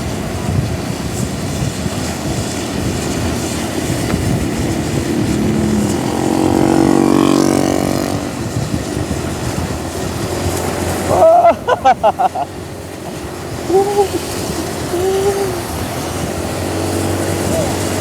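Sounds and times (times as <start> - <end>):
heavy rain: 0.0 - 18.0
vehicle passing on wet road: 0.0 - 18.0.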